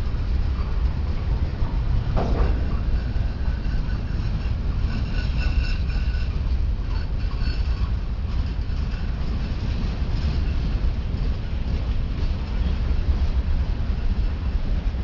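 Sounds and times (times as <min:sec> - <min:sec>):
freight train rumbling on track: 0:00.0 - 0:15.0.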